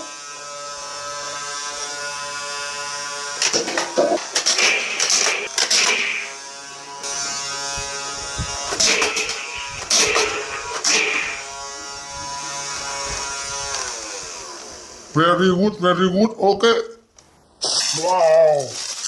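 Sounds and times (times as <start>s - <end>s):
toy blaster motor buzzing: 0.0s - 15.2s, 17.6s - 18.1s.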